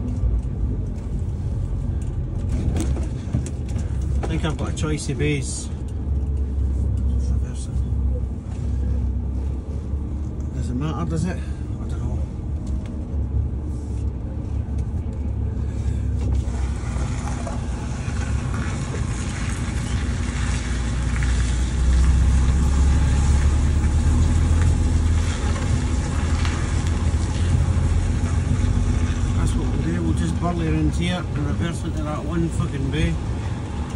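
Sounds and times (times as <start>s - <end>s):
diesel truck engine droning: 0.0s - 33.9s.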